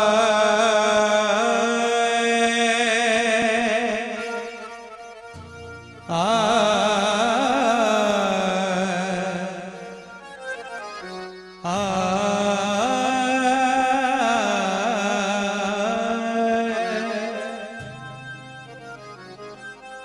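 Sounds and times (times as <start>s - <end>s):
man singing with vibrato: 0.0s - 20.0s.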